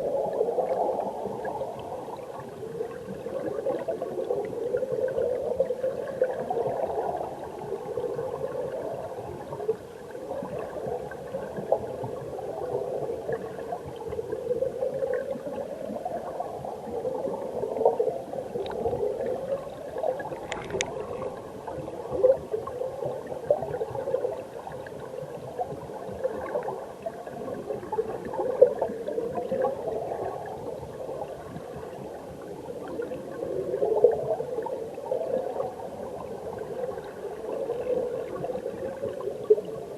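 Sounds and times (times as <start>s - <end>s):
underwater stream gurgling: 0.0s - 39.9s.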